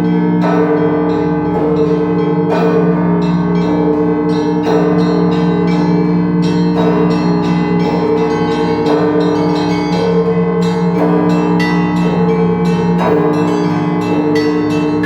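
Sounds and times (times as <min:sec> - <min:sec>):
hum of large bells: 0:00.0 - 0:15.0
small church bells ringing rhythmically: 0:00.0 - 0:15.0.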